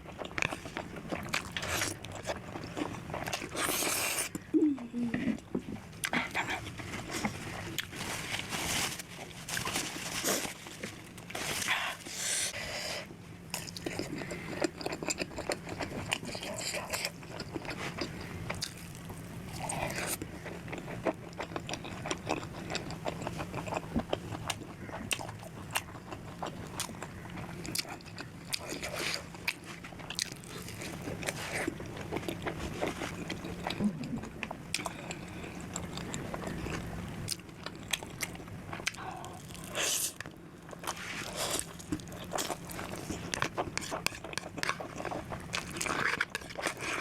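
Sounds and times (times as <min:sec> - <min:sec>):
chewing and biting food: 0:00.0 - 0:04.4, 0:13.5 - 0:47.0.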